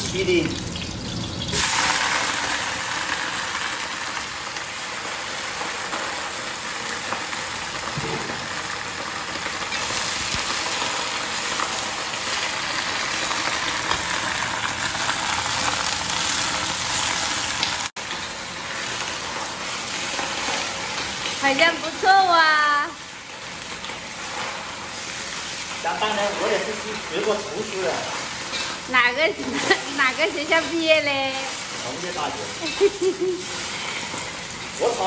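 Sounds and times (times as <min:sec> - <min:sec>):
vegetables sizzling in hot oil: 0:00.0 - 0:35.0.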